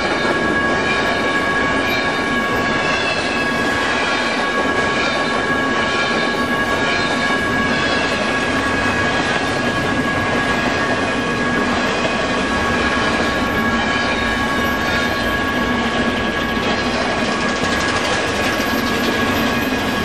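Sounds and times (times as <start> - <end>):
steady high-pitched tone: 0.0 - 20.0
steel wheels rumbling on rail: 0.0 - 20.0.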